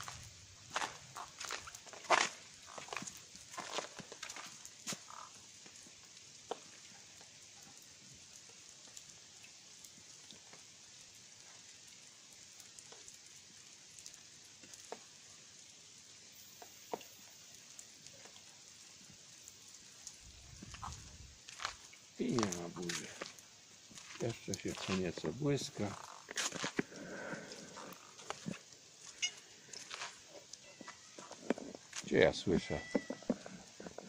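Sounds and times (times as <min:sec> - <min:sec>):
faint steady hiss: 0:00.0 - 0:34.0
soft scattered ticks: 0:00.0 - 0:34.0.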